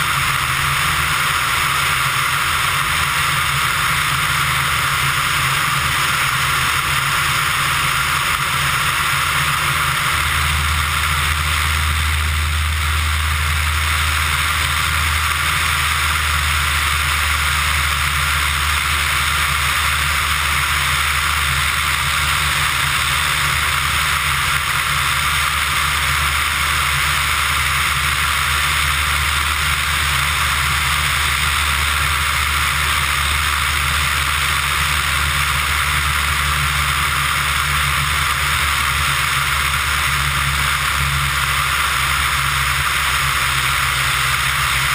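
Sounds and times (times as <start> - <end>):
aircraft engine and propeller drone: 0.0 - 44.9.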